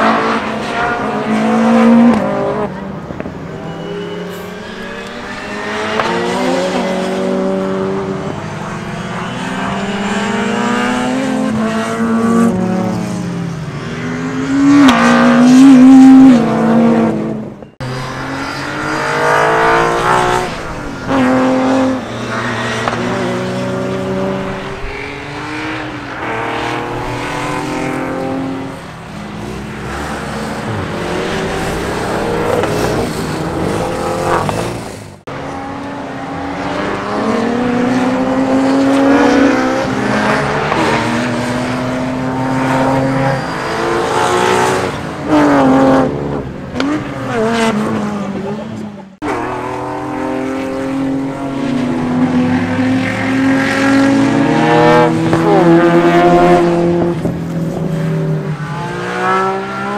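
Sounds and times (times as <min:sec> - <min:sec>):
race cars revving past: 0:00.0 - 0:59.9.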